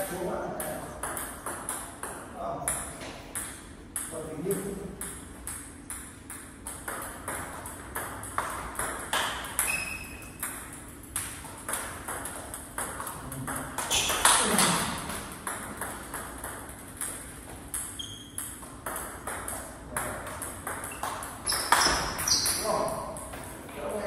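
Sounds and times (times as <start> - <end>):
table tennis ball clicking: 3.4 - 23.5.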